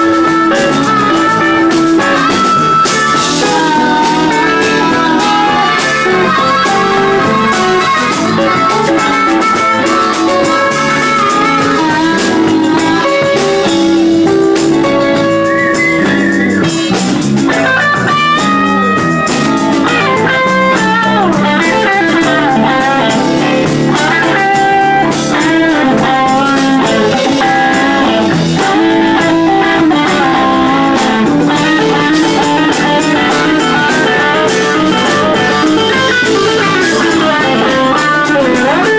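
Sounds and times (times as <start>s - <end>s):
bass guitar: 0.0s - 38.9s
drums: 0.0s - 38.9s
electric guitar lead: 0.0s - 38.9s.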